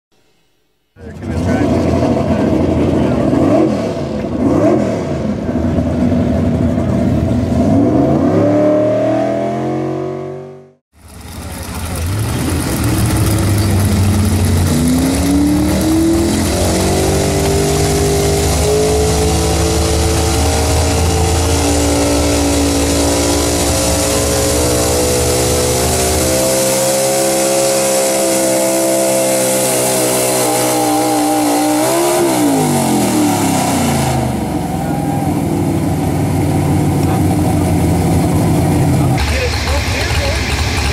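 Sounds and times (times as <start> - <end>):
truck engine at full throttle: 1.0 - 40.9.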